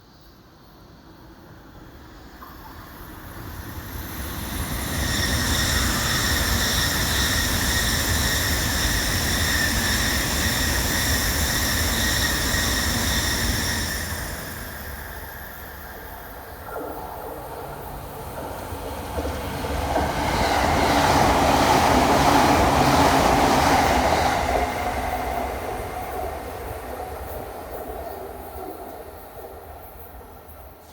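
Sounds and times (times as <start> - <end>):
electric train passing: 0.1 - 30.9.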